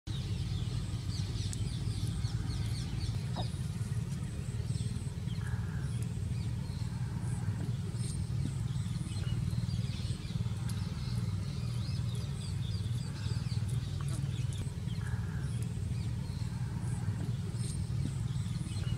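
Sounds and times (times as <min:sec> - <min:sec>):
small birds chirping: 0:00.1 - 0:18.9
steady low rumble: 0:00.1 - 0:18.9.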